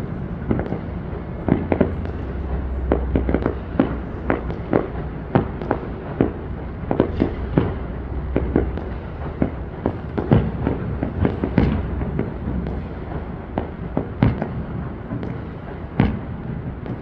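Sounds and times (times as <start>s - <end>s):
low rumble: 0.0s - 14.8s
fireworks bangs: 0.0s - 17.0s.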